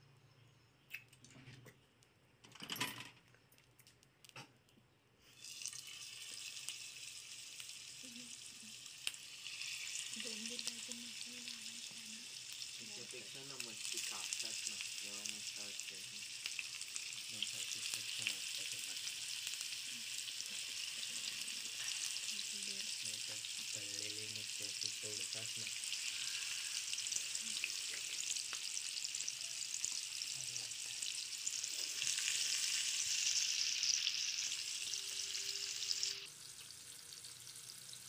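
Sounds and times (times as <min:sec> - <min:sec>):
fish frying in hot oil: 0:05.3 - 0:38.0.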